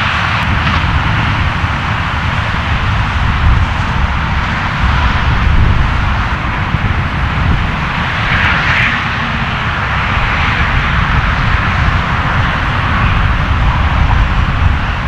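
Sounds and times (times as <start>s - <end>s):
jet airliner engines rumbling: 0.0s - 15.0s.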